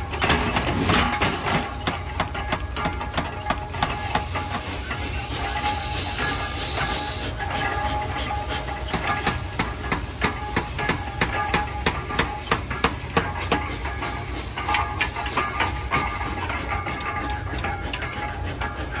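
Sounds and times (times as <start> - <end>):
machine hum and hiss: 0.0 - 19.0.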